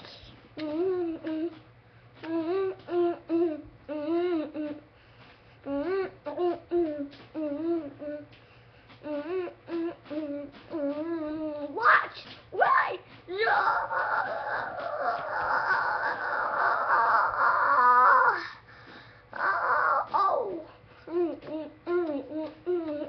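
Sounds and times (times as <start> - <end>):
person humming a tune: 0.0 - 5.0, 5.6 - 11.8, 13.5 - 23.0.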